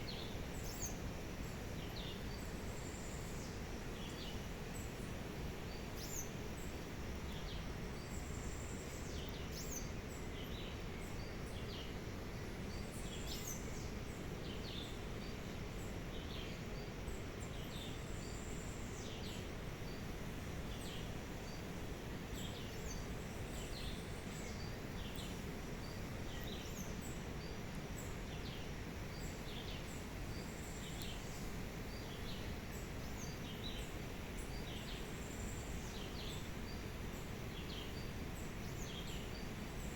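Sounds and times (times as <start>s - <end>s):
low outdoor background noise: 0.0s - 39.9s.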